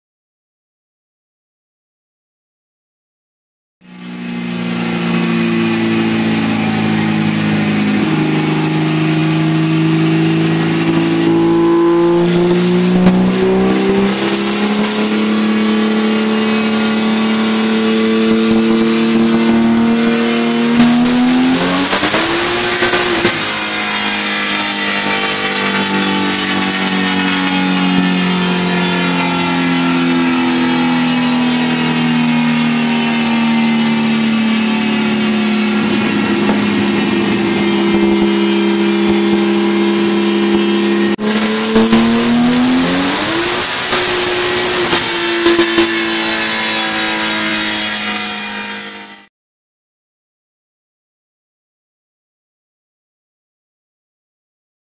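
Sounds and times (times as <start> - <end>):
car engine revving on dyno: 3.9 - 49.3.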